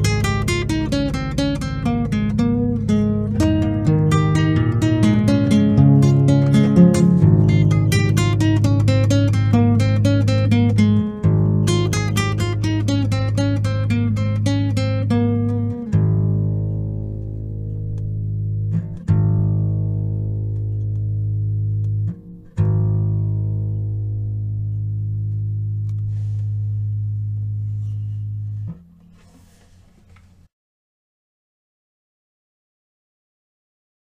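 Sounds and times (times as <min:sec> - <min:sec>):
blues guitar chords ringing: 0:00.0 - 0:29.2.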